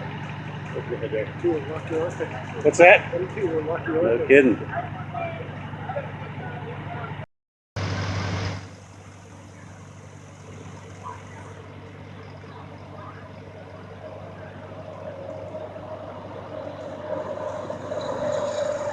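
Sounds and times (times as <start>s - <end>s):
high whine: 0.0s - 7.2s, 7.8s - 18.9s
vehicle engine humming: 0.0s - 18.9s.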